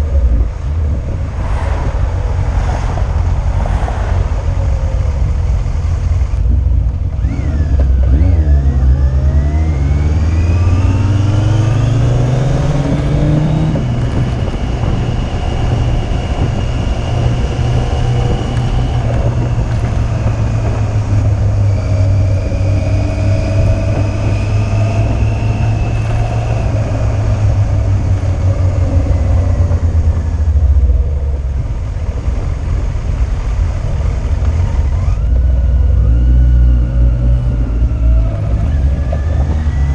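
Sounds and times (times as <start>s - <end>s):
motorcycle engine revving: 4.2s - 39.9s.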